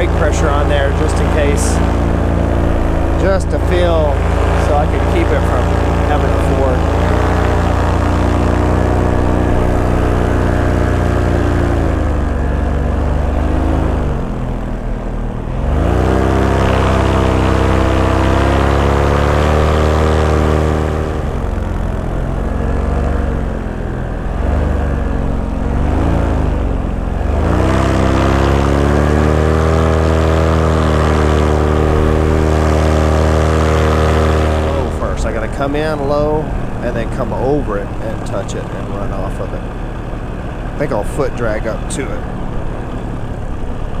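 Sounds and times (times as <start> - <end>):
paramotor engine and propeller: 0.0 - 44.0.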